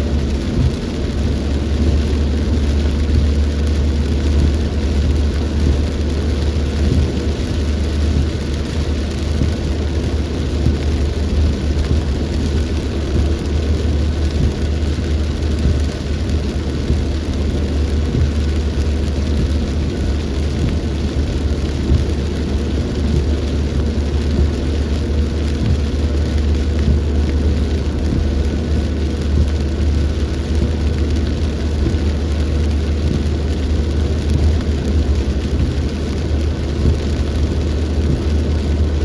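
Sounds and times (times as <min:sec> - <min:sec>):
steady rain: 0:00.0 - 0:39.0.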